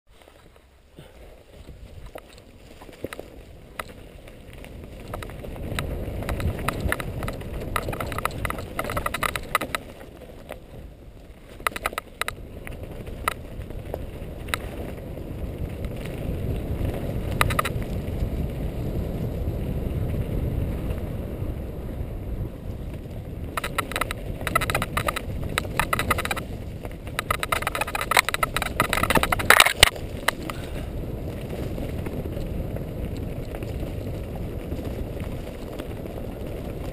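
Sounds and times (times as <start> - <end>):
bike rattling over stones: 0.1 - 36.9
bike tyres rumbling on trail: 0.1 - 36.9.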